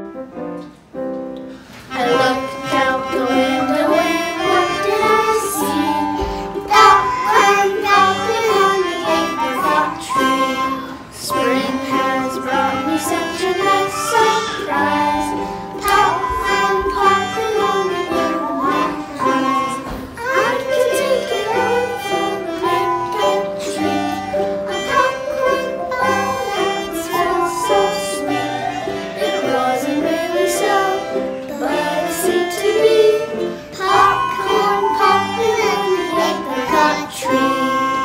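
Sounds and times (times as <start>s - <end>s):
ukulele: 0.5s - 38.0s
children singing in unison: 1.8s - 38.0s
melodica: 1.9s - 38.0s
glockenspiel: 2.0s - 38.0s.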